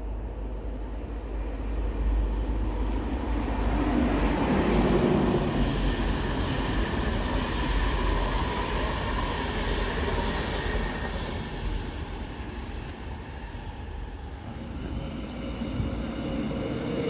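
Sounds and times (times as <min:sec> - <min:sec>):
passenger train rail rumble: 0:00.0 - 0:17.0.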